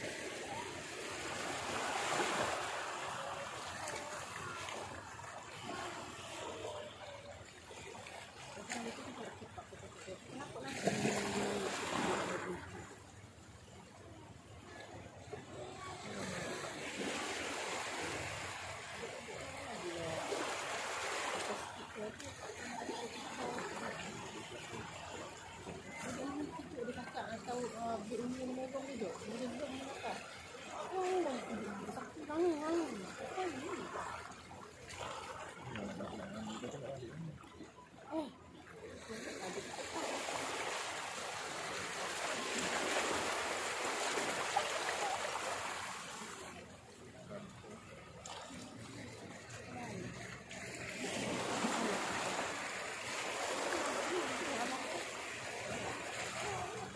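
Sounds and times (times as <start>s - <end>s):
faint voices: 0.0s - 56.9s
rushing water: 0.0s - 56.9s.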